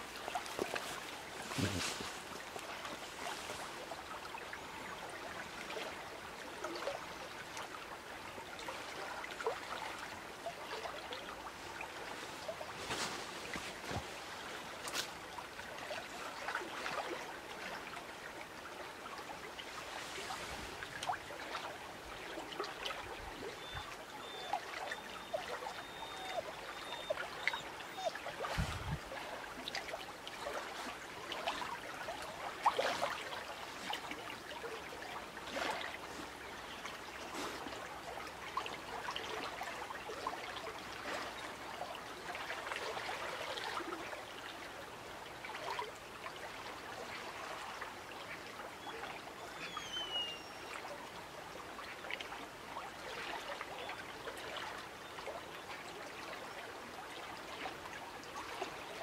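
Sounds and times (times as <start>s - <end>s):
small water splashes: 0.0s - 59.0s.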